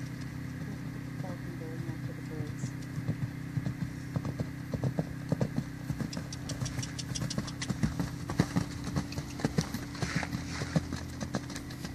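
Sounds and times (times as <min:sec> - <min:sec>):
horse hoofbeats cantering on dirt: 0:00.0 - 0:11.9
steady low hum: 0:00.0 - 0:11.9.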